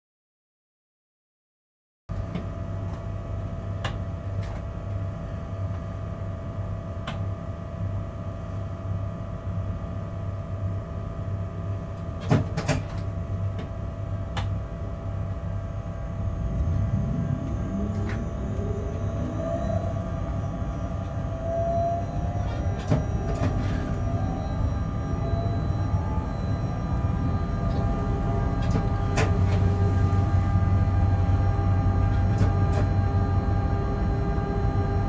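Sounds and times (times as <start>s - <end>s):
rising whine of locomotive: 2.2s - 35.0s
electrical hum: 3.0s - 35.0s.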